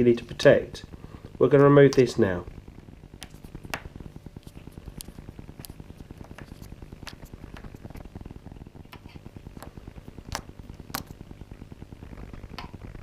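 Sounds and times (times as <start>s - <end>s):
steady low buzz: 0.0s - 13.0s.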